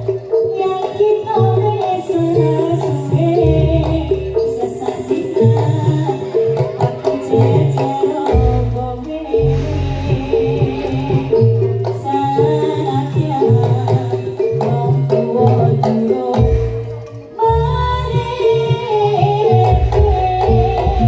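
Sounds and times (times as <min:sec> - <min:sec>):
heavy drum beats: 0:00.0 - 0:21.0
person singing wavering melody: 0:00.0 - 0:21.0.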